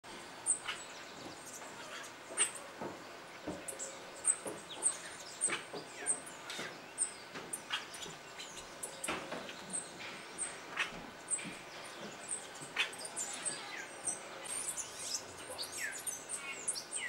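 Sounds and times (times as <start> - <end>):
birds chirping and whistling: 0.4 - 17.0.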